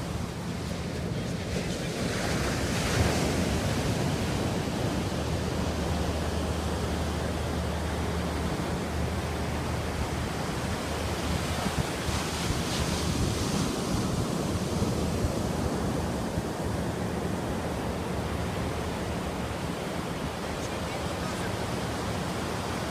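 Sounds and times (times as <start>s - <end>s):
ocean waves washing: 0.0s - 22.9s.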